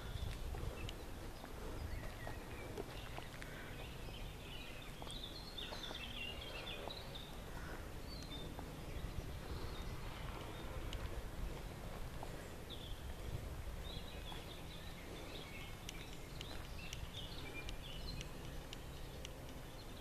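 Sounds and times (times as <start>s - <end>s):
songbirds chirping and singing: 0.0s - 20.0s
steady low rumble: 0.0s - 20.0s.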